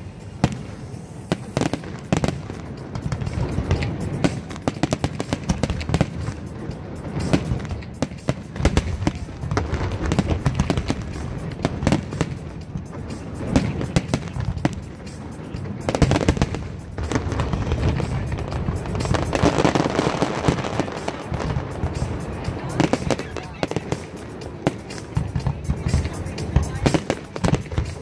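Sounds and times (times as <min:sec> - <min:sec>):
fireworks bangs and crackling: 0:00.0 - 0:28.0
music playing: 0:00.0 - 0:28.0.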